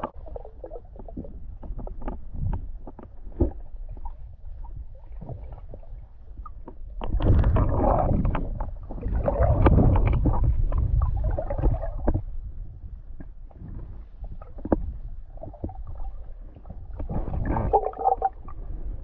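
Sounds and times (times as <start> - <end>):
muffled underwater stream rumble: 0.0 - 19.0.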